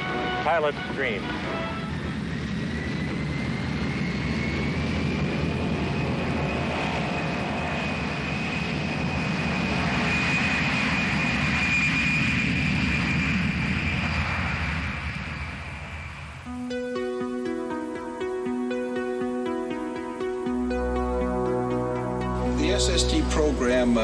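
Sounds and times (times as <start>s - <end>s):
jet engine rumble and whine: 0.0s - 24.0s.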